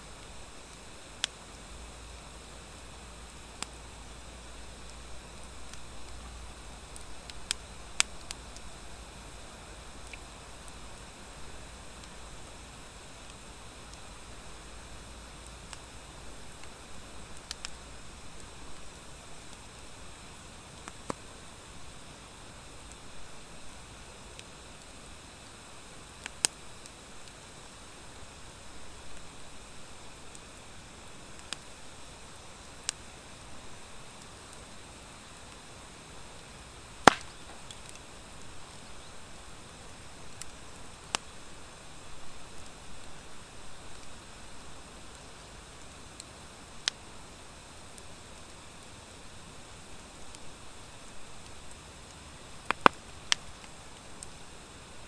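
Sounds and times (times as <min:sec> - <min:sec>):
fire crackling pops: 0:00.0 - 0:55.0
wood fire hissing: 0:00.0 - 0:55.0.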